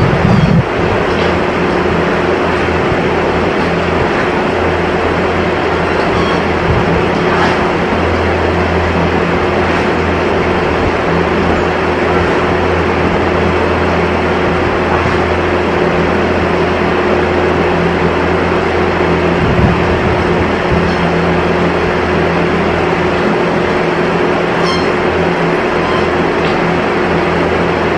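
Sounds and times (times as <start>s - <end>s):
machinery humming: 0.0s - 27.9s.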